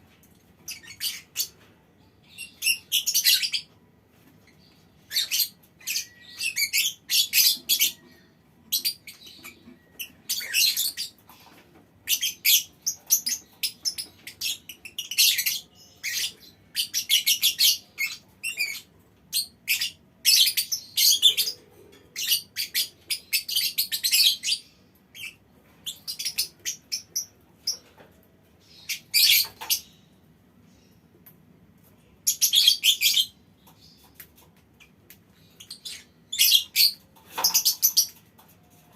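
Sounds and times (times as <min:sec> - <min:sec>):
lovebirds chirping: 0:00.6 - 0:38.9.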